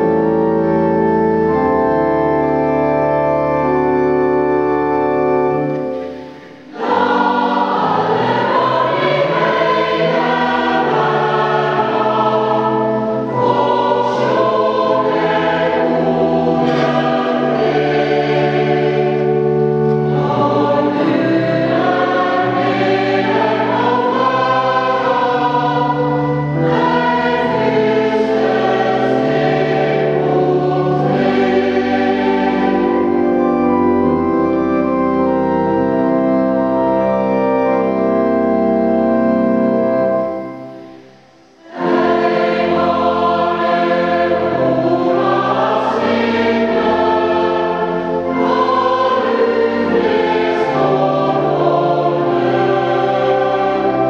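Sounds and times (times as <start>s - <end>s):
organ accompaniment: 0.0s - 54.0s
choir singing: 5.5s - 36.5s, 40.2s - 54.0s.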